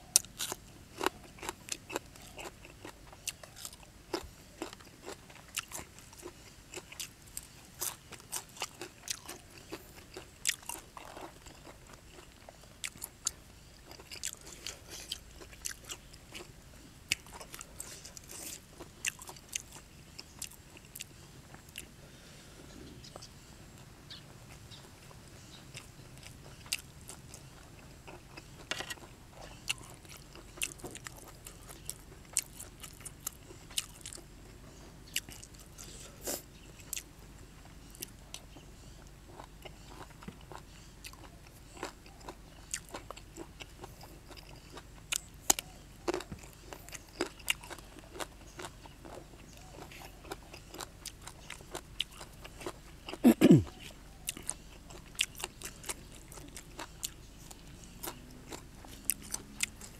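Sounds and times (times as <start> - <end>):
close chewing with crunches: 0.0 - 22.0, 22.6 - 59.9.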